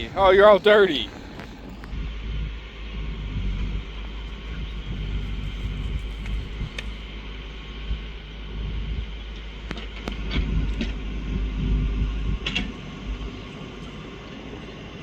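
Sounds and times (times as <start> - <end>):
backhoe engine whining: 0.0 - 15.0.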